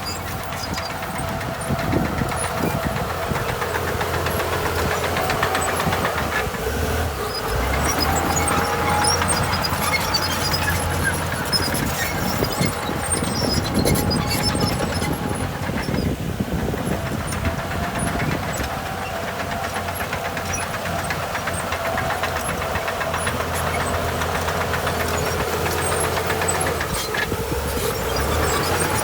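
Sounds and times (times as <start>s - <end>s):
diesel machinery running: 0.0s - 29.0s.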